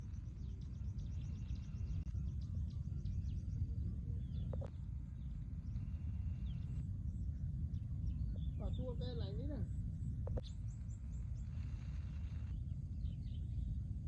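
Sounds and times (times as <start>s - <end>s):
faint bird chirps: 0.0s - 14.0s
low rumbling noise: 0.0s - 14.0s.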